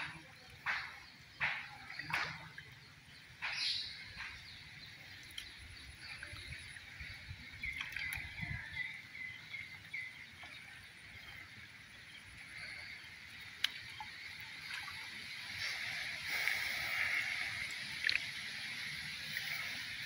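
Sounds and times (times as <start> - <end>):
birds calling and chirping: 0.0 - 20.0.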